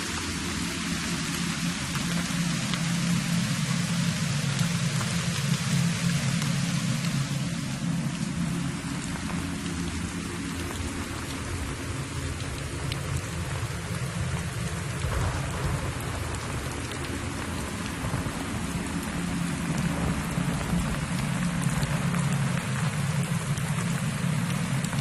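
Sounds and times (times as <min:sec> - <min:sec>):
low hum: 0:00.0 - 0:25.0
steady hiss: 0:00.0 - 0:25.0.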